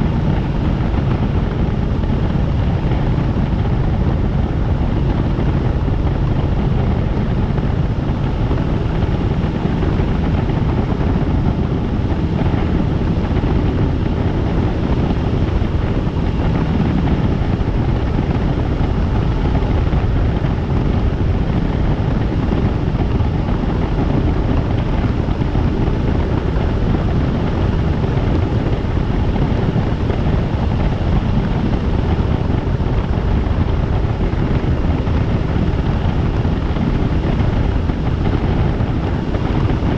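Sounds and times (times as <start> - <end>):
helicopter rotor and engine: 0.0 - 39.9
wind on microphone: 0.0 - 39.9.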